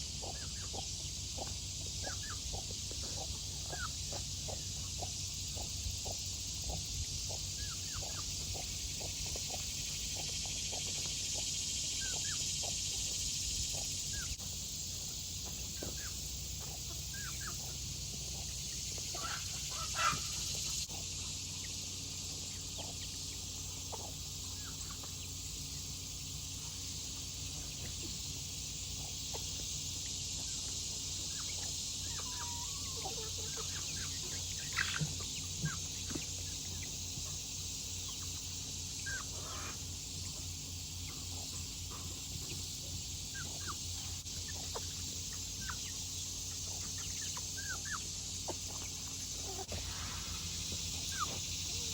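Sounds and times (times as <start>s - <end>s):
chickens clucking: 0.0s - 51.9s
steady high hiss: 2.9s - 51.9s.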